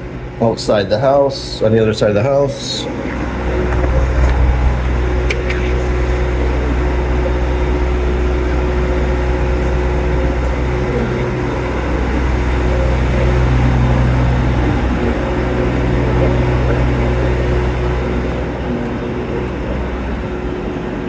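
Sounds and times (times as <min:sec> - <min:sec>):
generator engine humming: 0:00.0 - 0:21.0.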